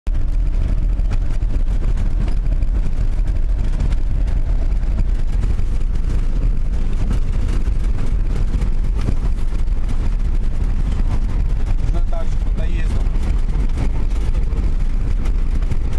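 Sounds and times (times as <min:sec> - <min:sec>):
vehicle engine and road rumble: 0:00.1 - 0:15.9.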